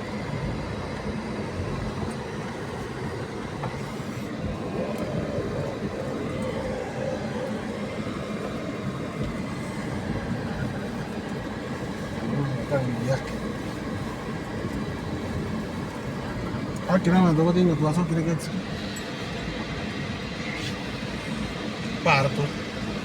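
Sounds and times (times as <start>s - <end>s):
road noise: 0.0s - 23.0s
vehicle engine rumbling: 0.0s - 23.0s.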